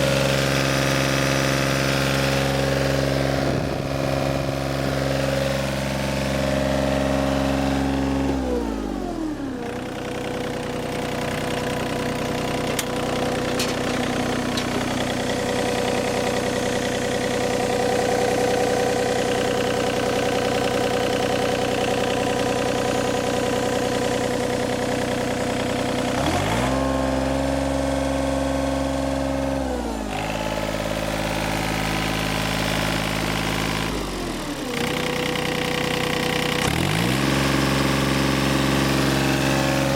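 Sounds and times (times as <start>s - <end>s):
diesel mower engine running: 0.0s - 39.9s.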